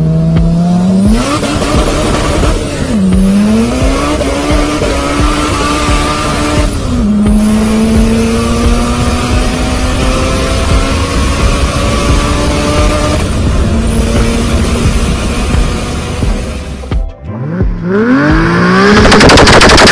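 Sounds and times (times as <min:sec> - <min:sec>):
car engine at full throttle: 0:00.0 - 0:19.9.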